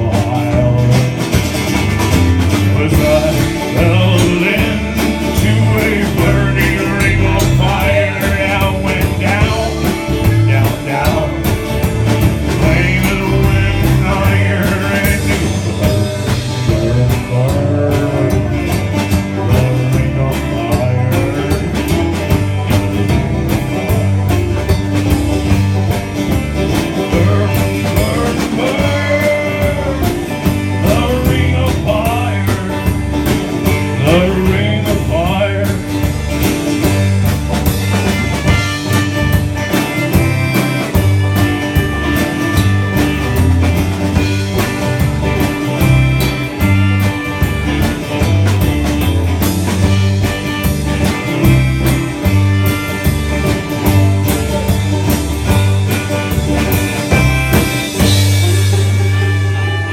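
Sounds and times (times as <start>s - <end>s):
country band playing: 0.0s - 59.9s
sliding lead guitar line: 0.0s - 59.9s.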